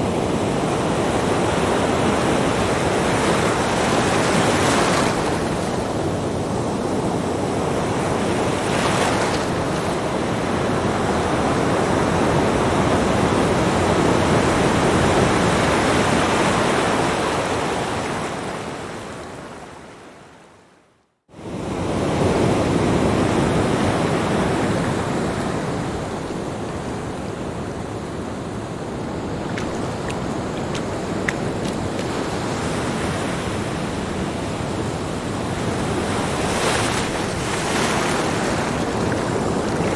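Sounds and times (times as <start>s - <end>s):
waves washing up a beach: 0.0s - 20.2s, 21.3s - 39.9s.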